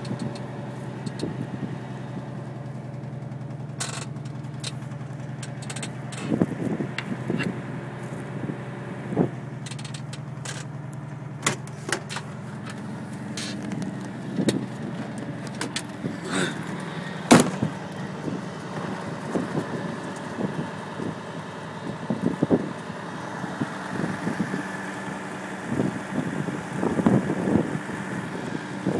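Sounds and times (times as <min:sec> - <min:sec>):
vehicle engine idling: 0:00.0 - 0:28.9.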